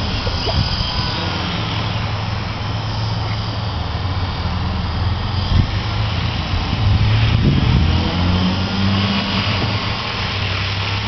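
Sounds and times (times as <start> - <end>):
rc helicopter motor and rotor drone: 0.0 - 11.0.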